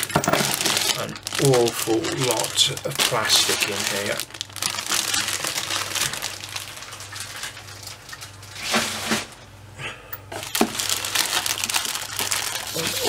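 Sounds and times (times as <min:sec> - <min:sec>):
plastic bags crinkling: 0:00.0 - 0:09.4, 0:10.3 - 0:13.0.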